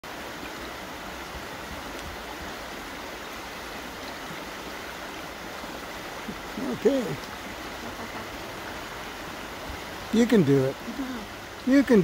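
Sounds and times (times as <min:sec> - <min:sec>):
creek water running over stones: 0:00.0 - 0:12.0.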